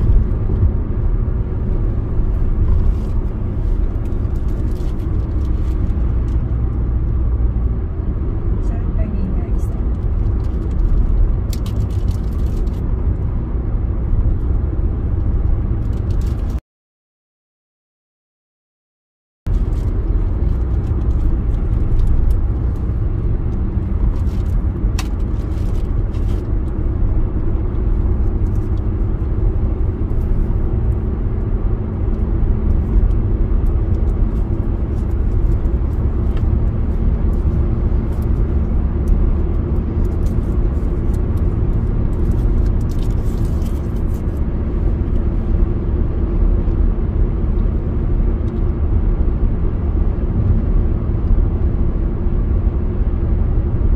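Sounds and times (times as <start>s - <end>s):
car driving at highway speed: 0.0s - 16.6s, 19.5s - 53.9s.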